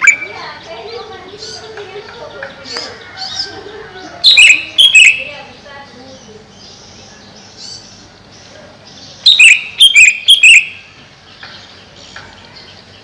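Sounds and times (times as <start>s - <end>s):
bird sharp high calls: 0.0s - 13.0s
soft bird twittering: 0.0s - 13.0s.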